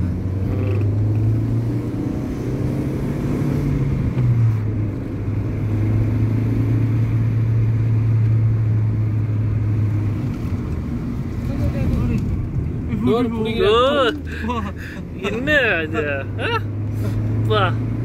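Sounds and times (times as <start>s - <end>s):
car engine hum from inside cabin: 0.0s - 18.0s.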